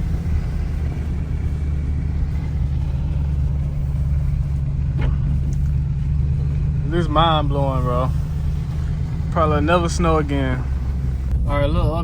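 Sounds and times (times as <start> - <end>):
car engine low rumble: 0.0 - 12.0
tyres on road: 0.0 - 12.0.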